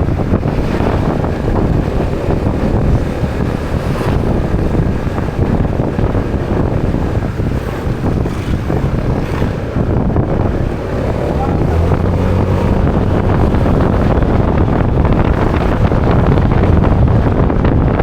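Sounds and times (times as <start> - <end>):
motorbike engine running: 0.0 - 18.0
road noise: 0.0 - 18.0
wind buffeting microphone: 0.0 - 18.0.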